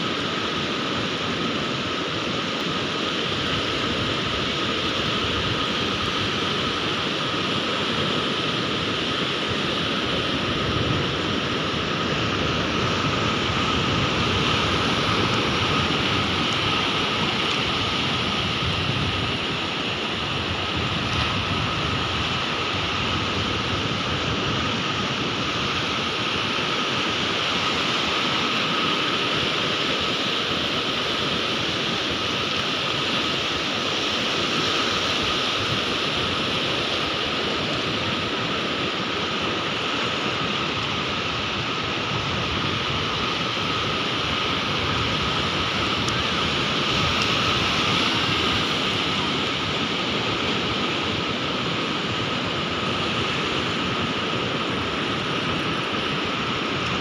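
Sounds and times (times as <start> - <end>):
sea waves washing: 0.0 - 57.0.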